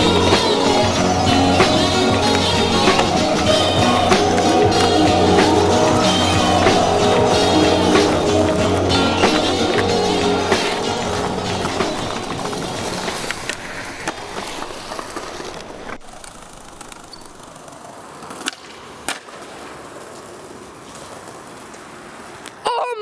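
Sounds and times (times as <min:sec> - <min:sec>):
skateboard clacks: 0:00.0 - 0:22.6
skateboard wheels rolling on paving: 0:00.0 - 0:22.7.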